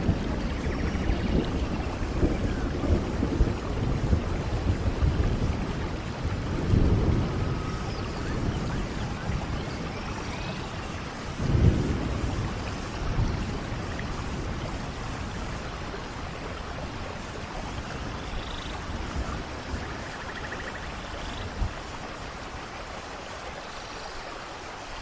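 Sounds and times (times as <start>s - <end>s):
thunder rumbling: 0.0s - 23.0s
heavy rain: 0.0s - 25.0s.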